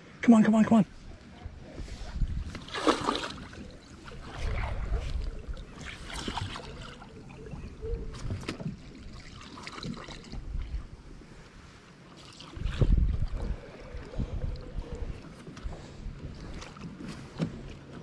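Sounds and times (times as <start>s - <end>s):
water sloshing against kayak hull: 0.9s - 18.0s
knocks and rustles in kayak: 1.3s - 11.4s, 12.5s - 18.0s.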